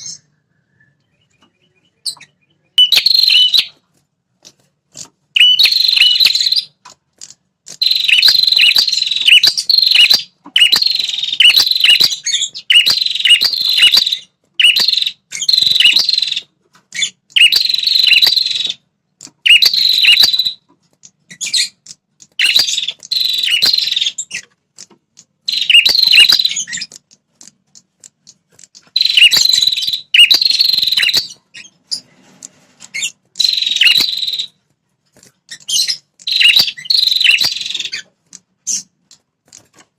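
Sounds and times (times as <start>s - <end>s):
bird high chattering song: 0.0s - 3.8s, 5.3s - 6.8s, 7.7s - 24.5s, 25.2s - 27.0s, 27.7s - 32.1s, 32.8s - 34.6s, 35.4s - 39.1s.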